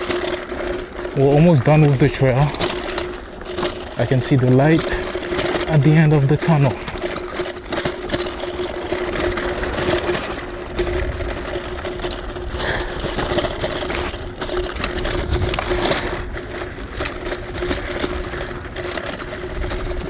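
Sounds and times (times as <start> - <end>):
scooter frame rattling: 0.0 - 20.0.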